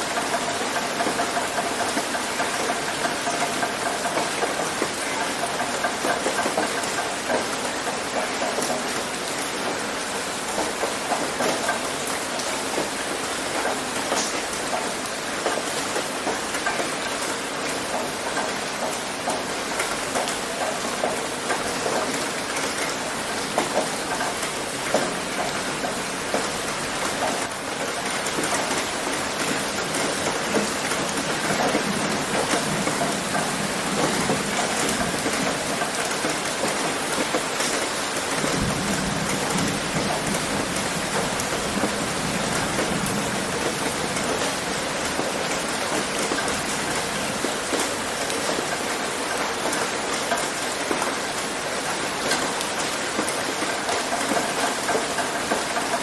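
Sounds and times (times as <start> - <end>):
heavy rain hitting a roof: 0.0 - 56.0.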